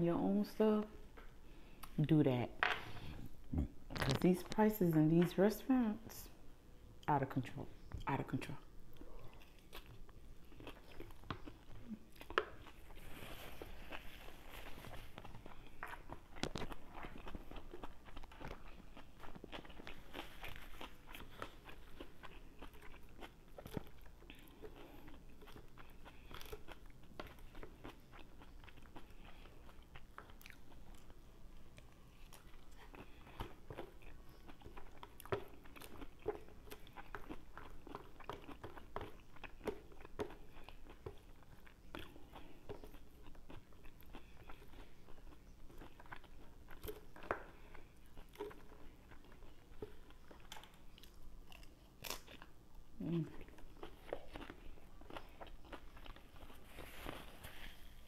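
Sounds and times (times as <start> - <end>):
chewing and crunching salad: 2.8 - 6.2, 7.0 - 58.0.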